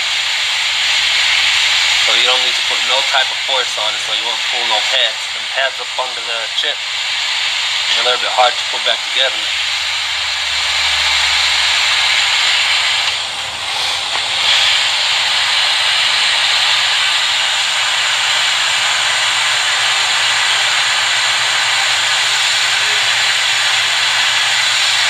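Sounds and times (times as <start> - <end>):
hot air station hissing: 0.0 - 25.0.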